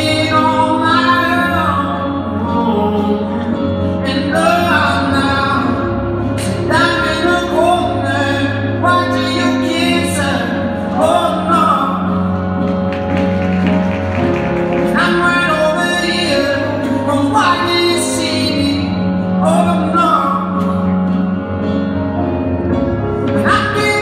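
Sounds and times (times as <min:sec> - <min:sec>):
song with sung vocal: 0:00.0 - 0:21.5, 0:23.2 - 0:24.0.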